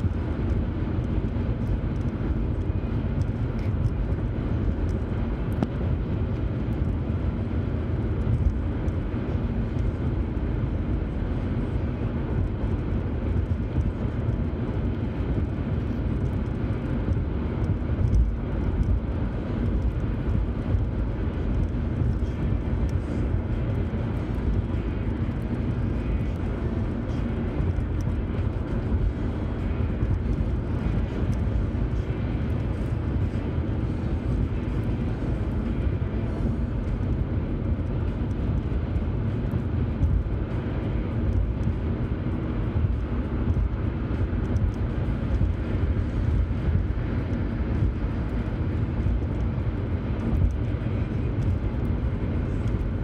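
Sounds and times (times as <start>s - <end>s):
car cabin road noise: 0.0s - 53.0s.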